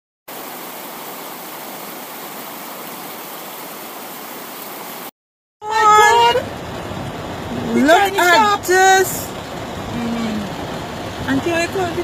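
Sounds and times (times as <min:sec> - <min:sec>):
floodwater rushing: 0:00.3 - 0:12.0.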